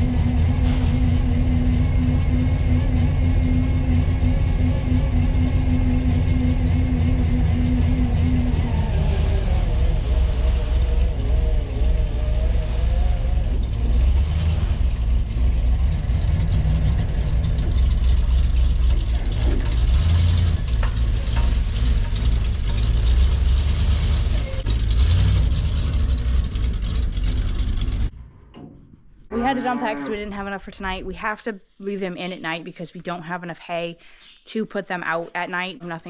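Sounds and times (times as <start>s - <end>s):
vehicle engine rumbling: 0.0s - 32.8s.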